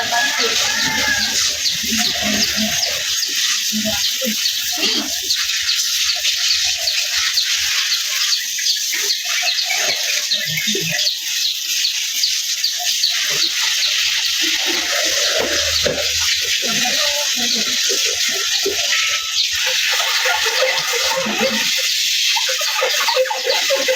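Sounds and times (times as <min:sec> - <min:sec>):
water spraying hiss: 0:00.0 - 0:23.9.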